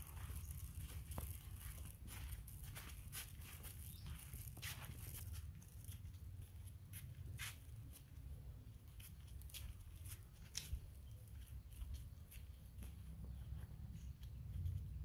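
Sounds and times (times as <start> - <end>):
footsteps crunching on dry dirt: 0.0 - 14.2.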